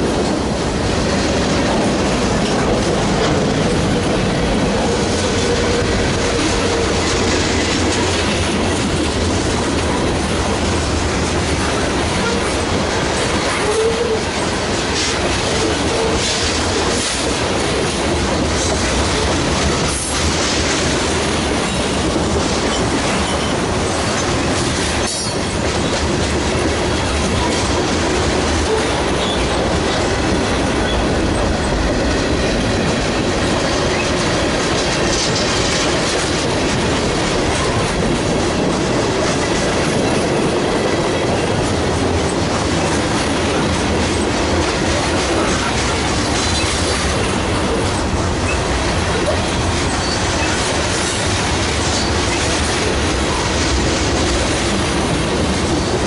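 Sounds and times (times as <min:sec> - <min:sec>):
freight train rolling past: 0:00.0 - 0:56.0
wheels clicking over rail joints: 0:00.0 - 0:56.0.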